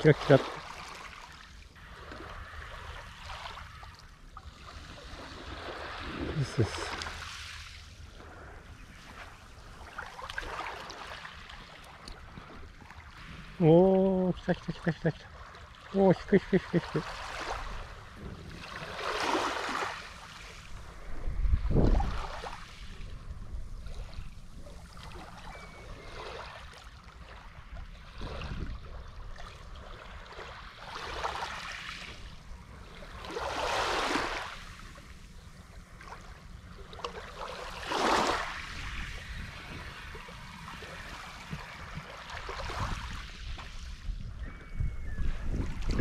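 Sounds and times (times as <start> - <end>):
small waves washing on shore: 0.0 - 44.2.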